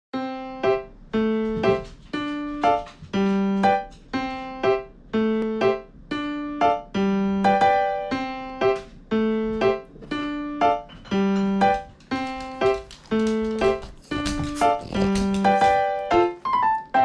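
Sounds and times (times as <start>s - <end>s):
light piano keyboard tune: 0.1s - 17.0s.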